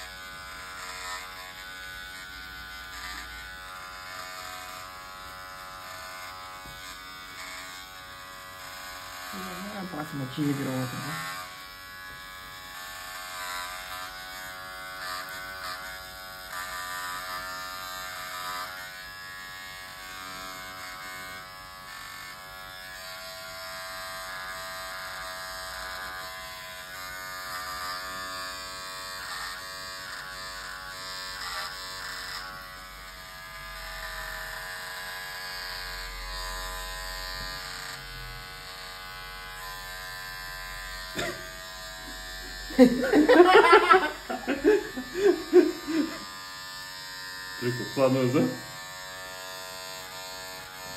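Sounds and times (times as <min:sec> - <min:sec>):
small electric motor buzzing: 0:00.0 - 0:50.9.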